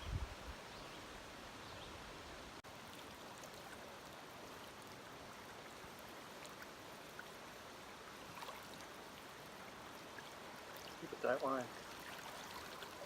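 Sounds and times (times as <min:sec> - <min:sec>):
faint flowing stream: 0:00.0 - 0:13.0.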